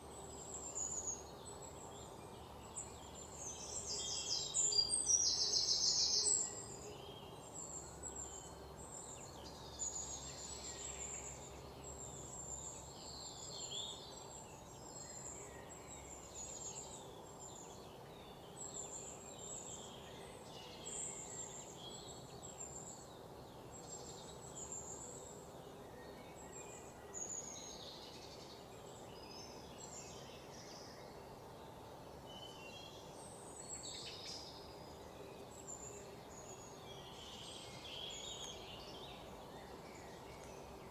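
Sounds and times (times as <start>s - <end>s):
soft background hiss: 0.0s - 40.9s.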